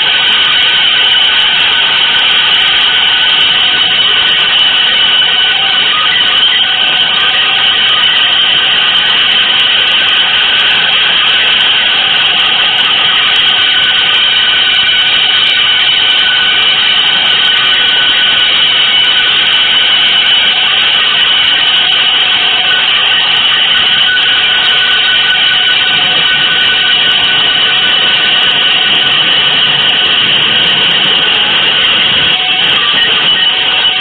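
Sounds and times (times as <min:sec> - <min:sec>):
harsh electronic noise drone: 0:00.0 - 0:34.0.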